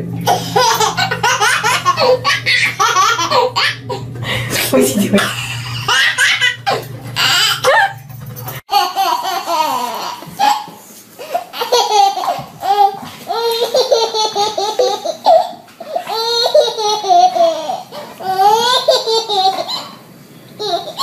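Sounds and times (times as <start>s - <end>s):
baby laughing: 0.2s - 4.0s, 4.6s - 20.0s, 20.6s - 21.0s.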